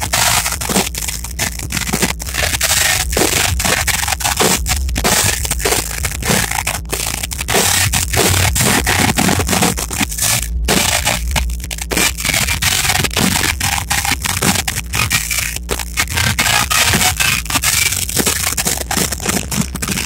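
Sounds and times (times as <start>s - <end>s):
distorted live rock band: 0.0s - 20.0s
drums: 0.0s - 20.0s.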